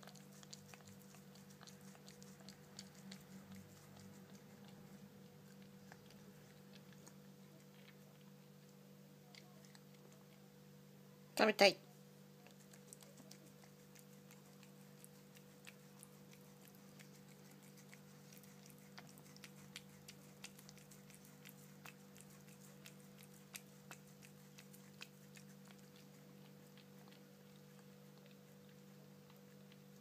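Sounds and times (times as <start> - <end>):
cat licking and chewing: 0.0 - 11.0, 12.0 - 30.0
steady low hum: 0.0 - 30.0.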